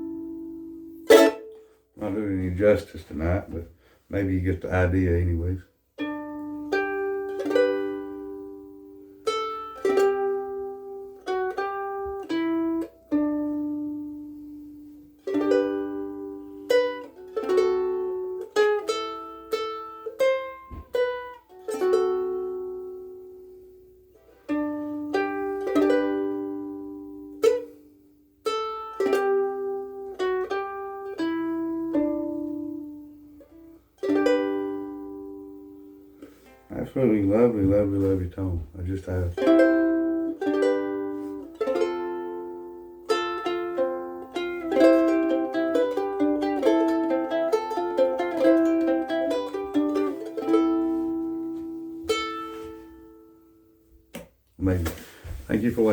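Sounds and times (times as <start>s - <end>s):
ukulele chords and picked notes: 0.0s - 4.0s, 4.9s - 55.5s.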